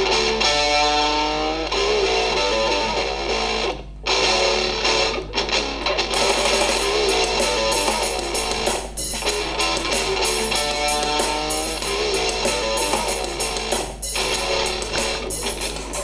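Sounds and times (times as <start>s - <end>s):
guitar music through laptop speakers: 0.0s - 16.0s.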